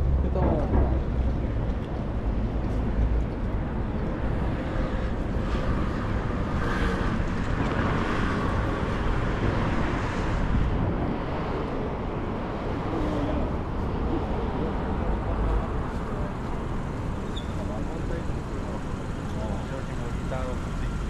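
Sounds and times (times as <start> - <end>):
cars passing and turning: 0.0 - 21.0
rumble of engines and tyres: 0.0 - 21.0.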